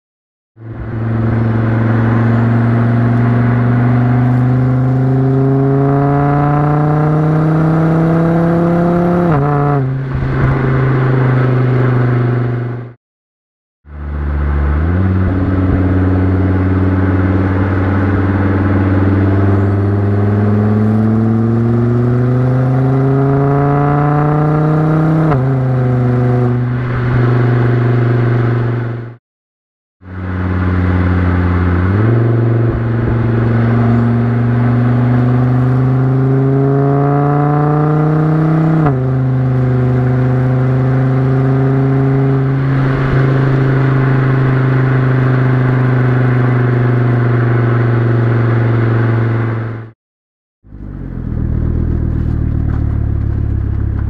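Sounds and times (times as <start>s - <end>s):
car exhaust accelerating through gears: 0.6s - 13.0s, 13.9s - 29.2s, 30.0s - 49.9s, 50.7s - 54.0s.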